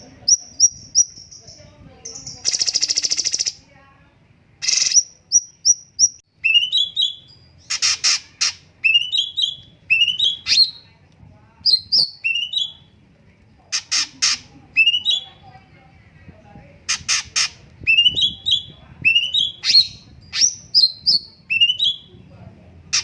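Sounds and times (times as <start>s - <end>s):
songbird singing: 0.0s - 3.7s, 4.6s - 11.0s, 11.6s - 13.0s, 13.7s - 16.1s, 16.9s - 23.0s.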